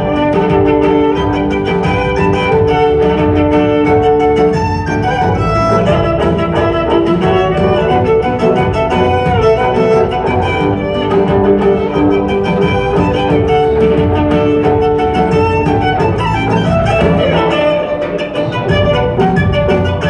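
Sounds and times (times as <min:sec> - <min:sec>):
cello: 0:00.0 - 0:20.0
violin: 0:00.0 - 0:20.0.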